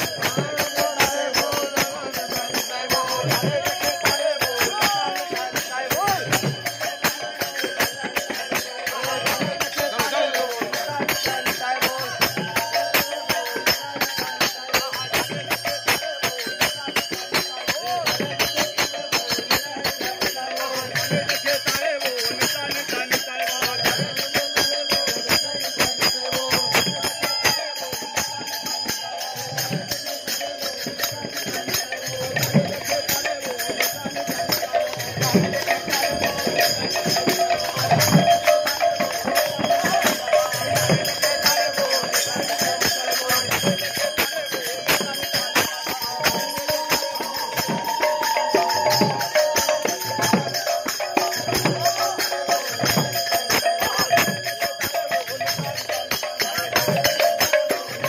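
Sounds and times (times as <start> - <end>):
hand cymbals jingling: 0.0 - 58.0
hand drums beating: 0.0 - 58.0
voices chanting: 0.0 - 58.0.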